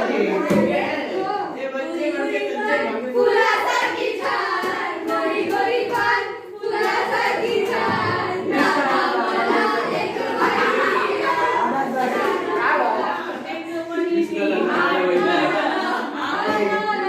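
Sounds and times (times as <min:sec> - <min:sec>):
young voices singing together: 0:00.0 - 0:17.0.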